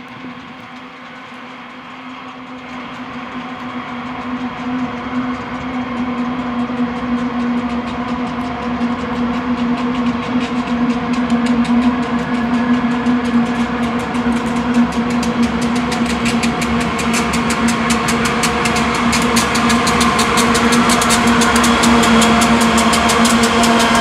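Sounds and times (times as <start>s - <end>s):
diesel locomotive engines droning: 0.0s - 24.0s
rapid train wheel clicks: 0.0s - 24.0s.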